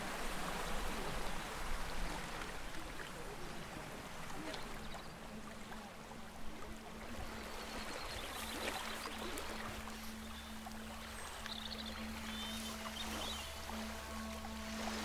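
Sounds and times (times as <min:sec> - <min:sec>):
water trickling over wet sand: 0:00.0 - 0:15.0.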